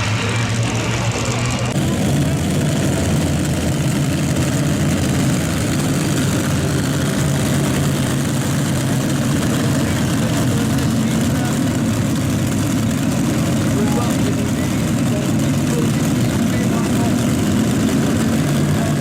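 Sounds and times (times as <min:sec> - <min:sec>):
pulling tractor engines running: 0:00.0 - 0:19.0.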